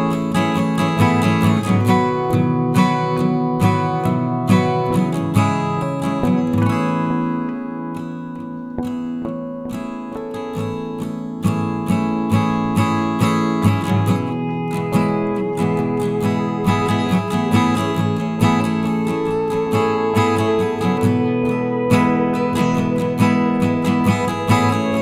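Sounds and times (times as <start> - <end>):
strummed acoustic guitar music: 0.0 - 25.0.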